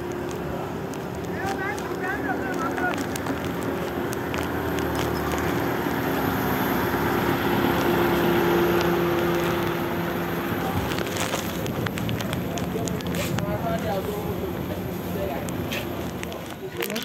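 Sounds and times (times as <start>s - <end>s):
vehicle engine running: 0.0s - 16.9s
street traffic: 0.0s - 17.0s.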